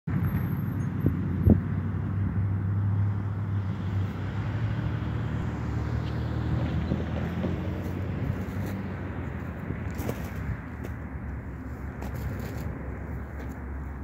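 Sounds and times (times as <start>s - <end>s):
traffic engine hum: 0.1s - 14.0s.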